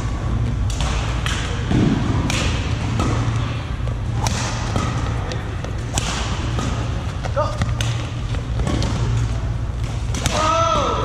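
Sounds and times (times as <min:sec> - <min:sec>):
steady low hum: 0:00.0 - 0:11.0
rackets striking shuttlecock: 0:00.5 - 0:10.6.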